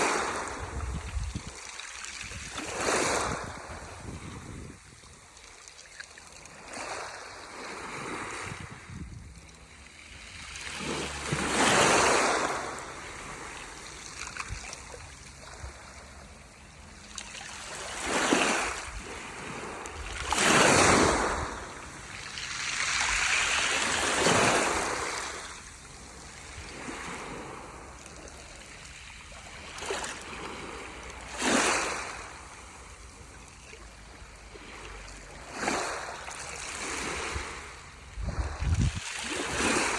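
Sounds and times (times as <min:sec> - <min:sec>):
waves splashing: 0:00.0 - 0:39.9.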